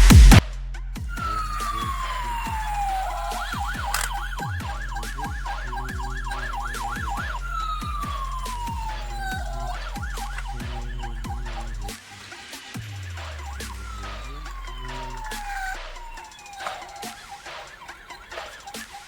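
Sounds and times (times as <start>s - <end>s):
music with low beat: 0.0s - 19.0s
electronic police siren: 1.1s - 19.0s.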